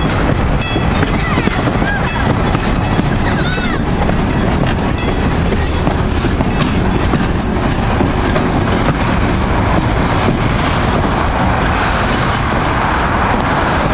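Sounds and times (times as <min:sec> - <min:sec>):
diesel locomotive engine rumble: 0:00.0 - 0:13.9
train wheels clacking on rail joints: 0:00.0 - 0:13.9.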